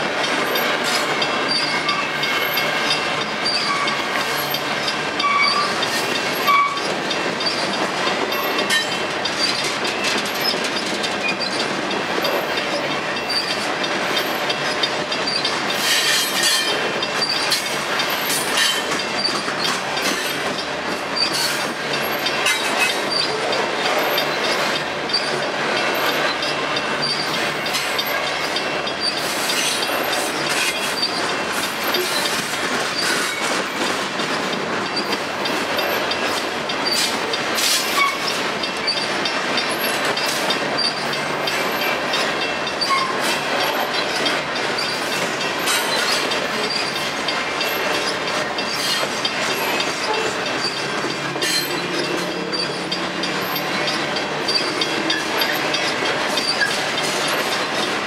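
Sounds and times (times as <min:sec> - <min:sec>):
clacks over rail joints: 0:00.0 - 0:58.0
train wheels rumbling and rattling: 0:00.0 - 0:58.0.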